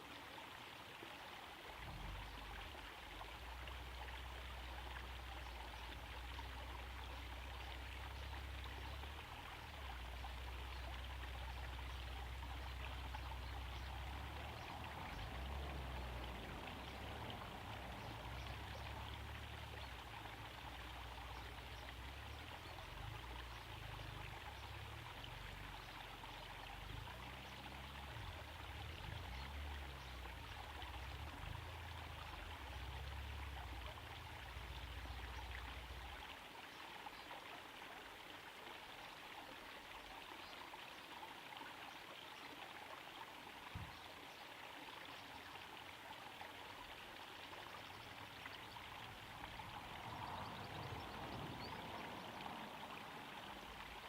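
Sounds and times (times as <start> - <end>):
waterfall trickling into pond: 0.0 - 54.0.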